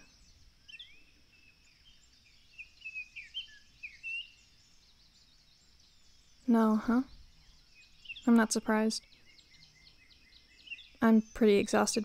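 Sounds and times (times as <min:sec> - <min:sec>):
faint steady high hiss: 0:00.0 - 0:12.0
small birds chirping: 0:00.0 - 0:12.0.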